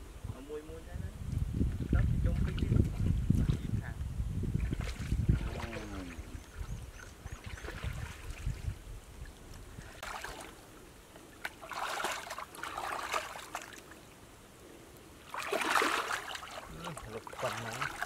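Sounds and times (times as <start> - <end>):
muddy water sloshing and splashing: 1.7 - 3.8, 4.4 - 14.1, 15.2 - 18.0.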